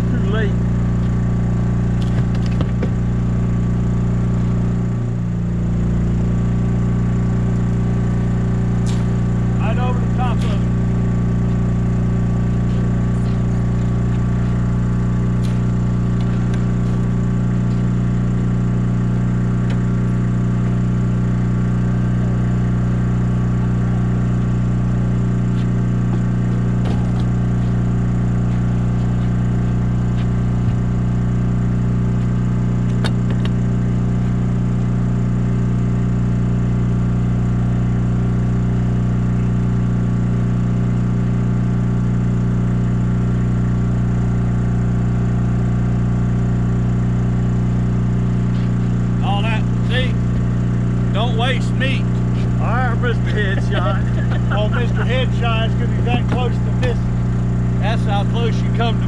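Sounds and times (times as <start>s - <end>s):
small generator engine droning: 0.0s - 59.0s.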